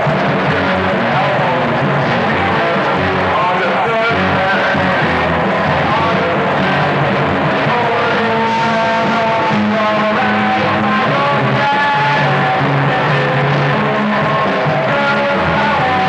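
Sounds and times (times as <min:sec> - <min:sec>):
garage rock band playing: 0:00.0 - 0:16.0.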